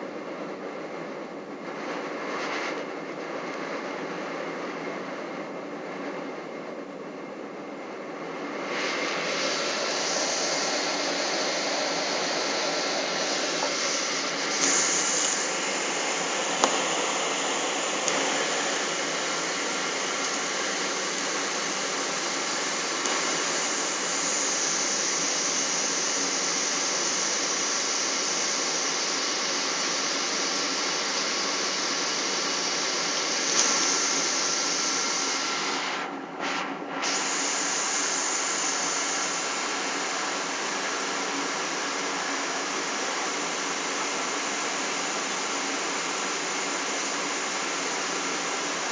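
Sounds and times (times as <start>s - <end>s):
jet engines rushing in cabin: 0.0s - 48.9s.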